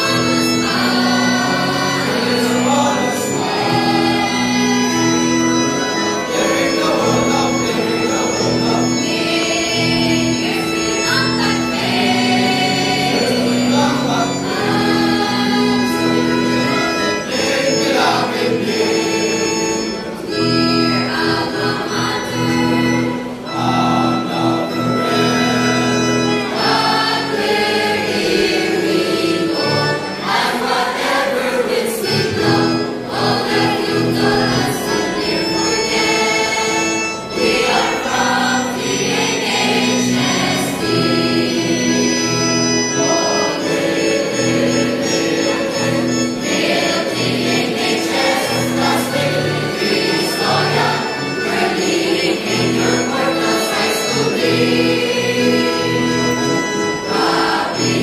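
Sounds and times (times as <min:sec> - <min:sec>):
choir singing long notes: 0:00.0 - 0:58.0.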